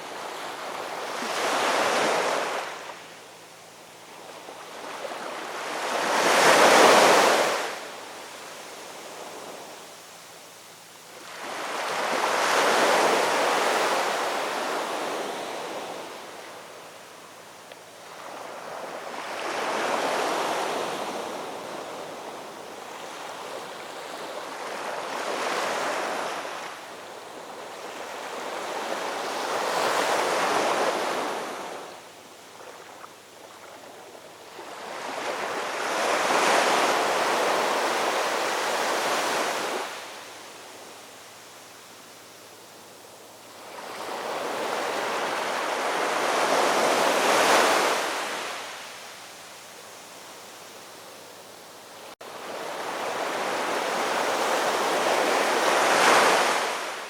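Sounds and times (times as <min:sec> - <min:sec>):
ocean waves breaking on shore: 0:00.0 - 0:03.2, 0:04.1 - 0:09.8, 0:10.8 - 0:17.4, 0:18.0 - 0:57.0.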